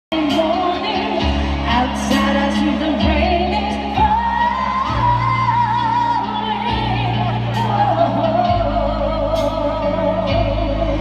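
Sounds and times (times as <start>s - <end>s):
keyboard and bass notes: 0.1s - 11.0s
woman singing a slow ballad: 0.1s - 11.0s.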